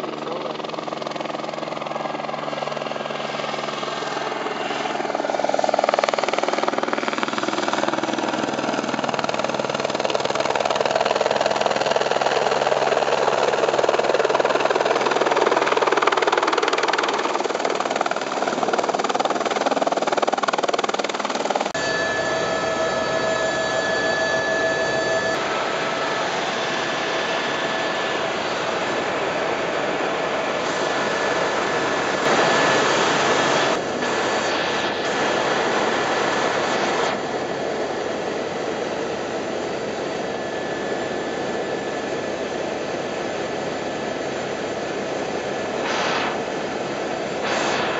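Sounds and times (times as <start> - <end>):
helicopter engine and rotor: 0.0 - 47.9
steady whine: 0.0 - 47.9.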